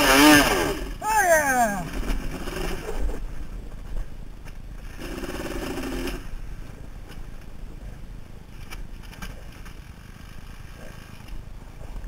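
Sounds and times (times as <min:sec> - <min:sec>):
atv engine climbing: 0:00.0 - 0:12.0
low wind rumble: 0:00.0 - 0:12.0.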